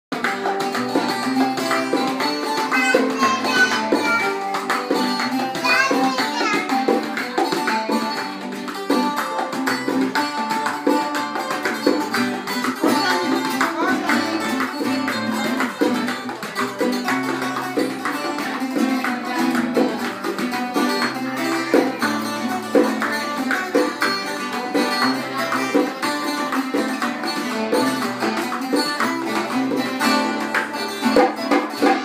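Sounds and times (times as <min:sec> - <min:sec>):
acoustic guitar: 0:00.1 - 0:32.0
hand drum beating: 0:00.1 - 0:32.0
strummed small string instrument: 0:00.1 - 0:32.0.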